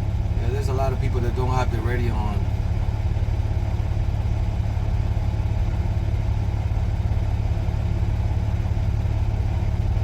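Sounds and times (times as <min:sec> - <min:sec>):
diesel engine low rumble: 0:00.0 - 0:10.0.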